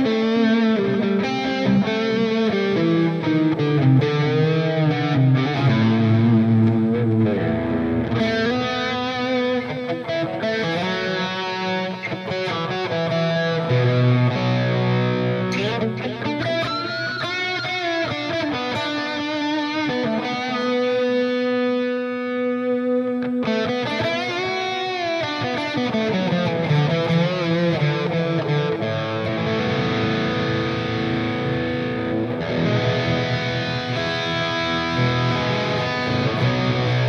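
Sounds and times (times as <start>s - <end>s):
electric guitar with crunch tone: 0.0s - 37.0s.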